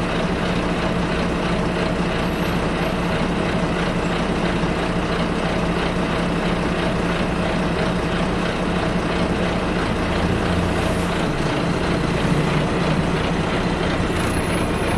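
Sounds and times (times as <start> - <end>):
bus engine droning: 0.0 - 14.9.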